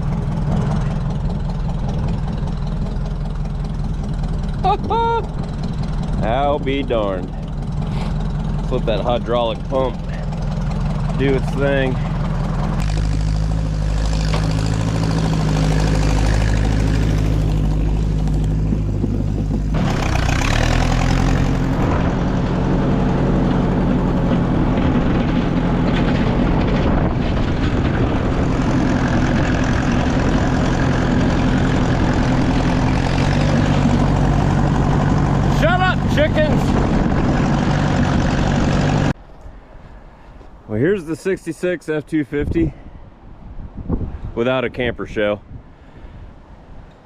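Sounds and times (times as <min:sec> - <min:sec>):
tractor engine running: 0:00.0 - 0:42.5.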